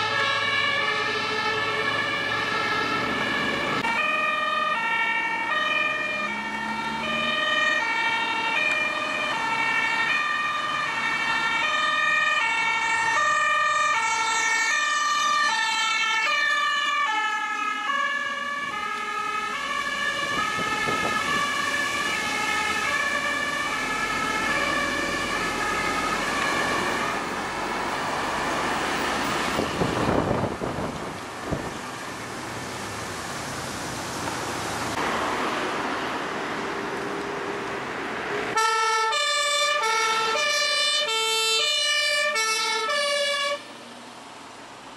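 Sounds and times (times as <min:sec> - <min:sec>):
two-tone emergency siren: 0:00.0 - 0:30.8, 0:38.5 - 0:43.8
road and traffic noise: 0:00.0 - 0:44.9.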